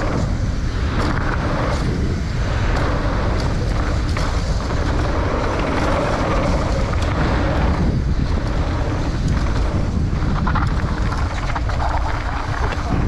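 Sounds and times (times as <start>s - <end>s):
bike rattles and clicks: 0.0s - 13.0s
tyre noise on dirt: 0.0s - 13.0s
wind rushing over microphone: 0.0s - 13.0s.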